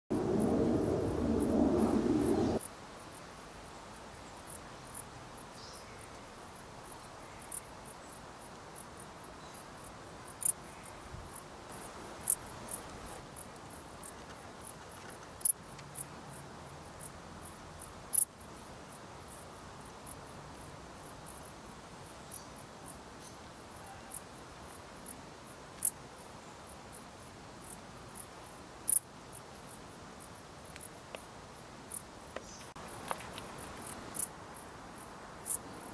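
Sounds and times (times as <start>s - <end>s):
bush cricket chirping: 0.1s - 35.9s.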